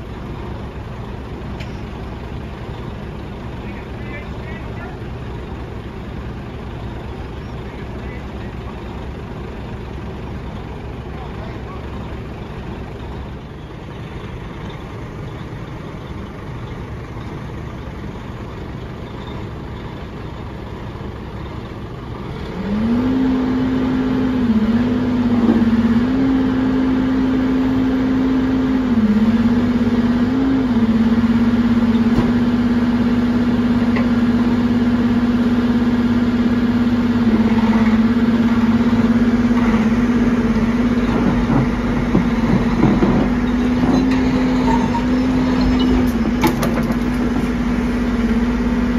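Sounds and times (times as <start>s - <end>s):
diesel engine idling and revving: 0.0s - 48.9s.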